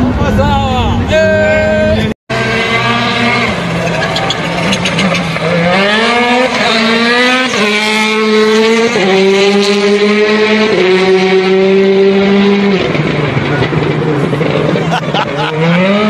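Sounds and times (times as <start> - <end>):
rally car engine revving: 1.7 - 16.0.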